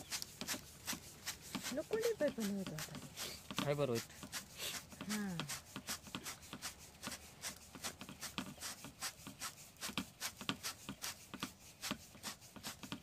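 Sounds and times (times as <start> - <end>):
hands rubbing pipe: 0.0 - 13.0.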